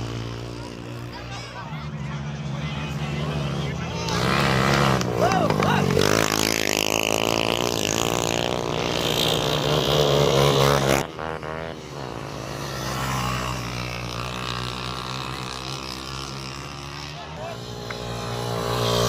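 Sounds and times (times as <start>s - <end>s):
motorcycle engines running: 0.0s - 19.0s.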